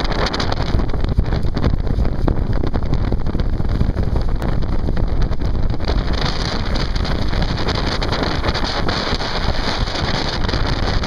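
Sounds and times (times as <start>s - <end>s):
water rushing past hull: 0.0s - 11.0s
wind buffeting microphone: 0.0s - 11.0s.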